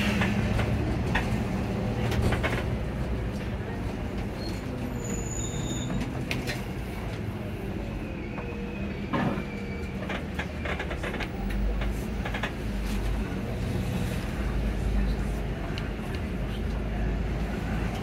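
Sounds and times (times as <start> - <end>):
bus engine droning: 0.0 - 18.0
road noise: 0.0 - 18.0.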